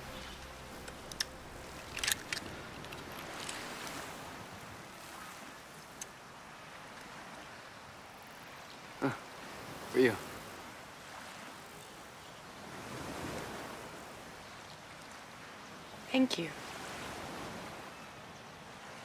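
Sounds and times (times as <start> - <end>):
water and surf: 0.0 - 19.0.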